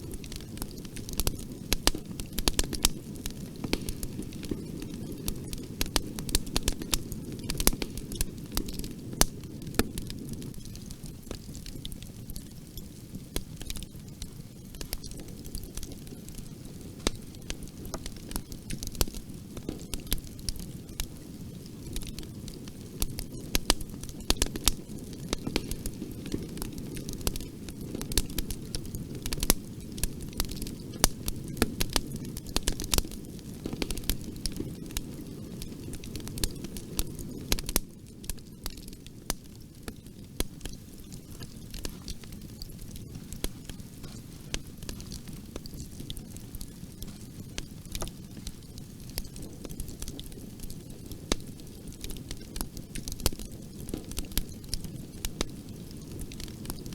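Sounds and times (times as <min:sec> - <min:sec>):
rumble of flames: 0:00.0 - 0:56.9
wood crackling and popping: 0:00.0 - 0:56.9.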